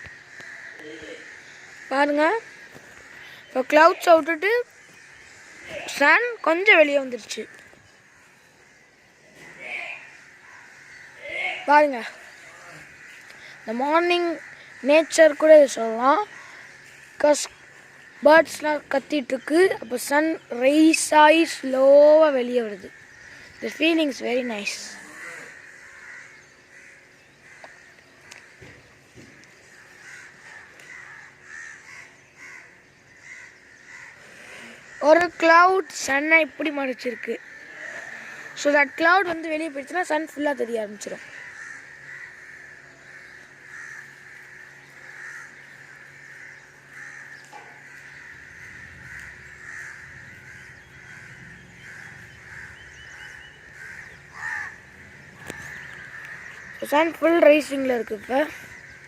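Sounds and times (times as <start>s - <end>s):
crows cawing: 0.0s - 59.0s.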